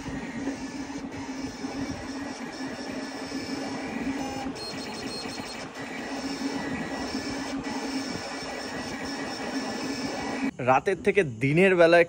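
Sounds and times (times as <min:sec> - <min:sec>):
cutting plotter motor hum: 0:00.0 - 0:10.6.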